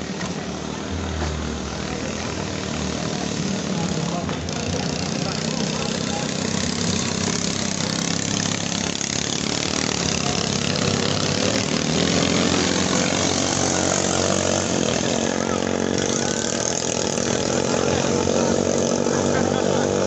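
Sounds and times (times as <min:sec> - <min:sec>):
boat engine running at high revs: 0:00.0 - 0:20.0.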